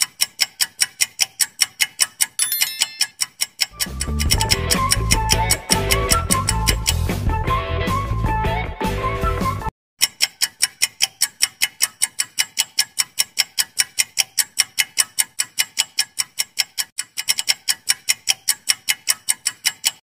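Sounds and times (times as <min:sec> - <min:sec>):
fast clock ticking: 0:00.0 - 0:07.0, 0:10.0 - 0:20.0.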